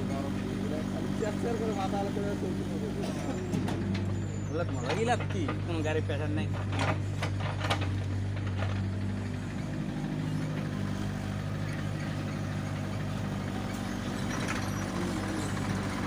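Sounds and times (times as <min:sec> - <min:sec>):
diesel engine running at low revs: 0:00.0 - 0:16.0.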